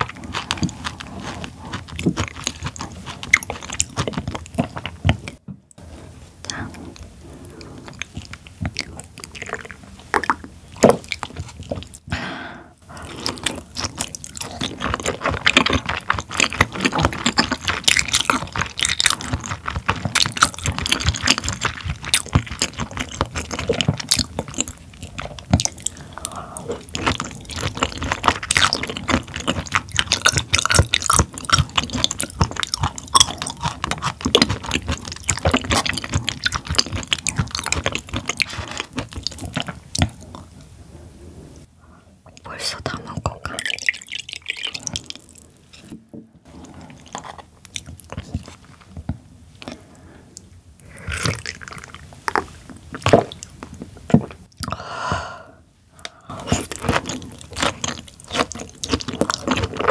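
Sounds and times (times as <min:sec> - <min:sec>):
chewing with mouth clicks: 0:00.0 - 0:05.8, 0:06.4 - 0:12.1, 0:12.9 - 0:40.6, 0:42.4 - 0:45.6, 0:46.5 - 0:54.8, 0:55.9 - 0:59.9.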